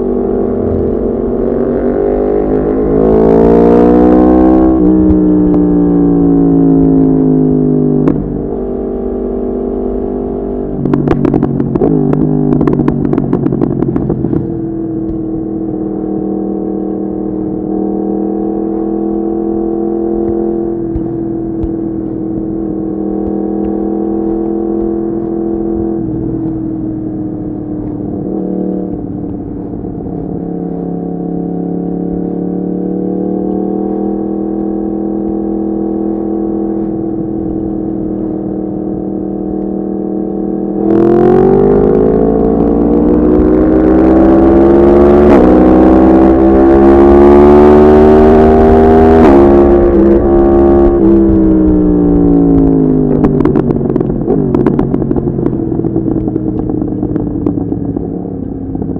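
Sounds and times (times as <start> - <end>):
motorcycle engine while riding: 0.0 - 58.9.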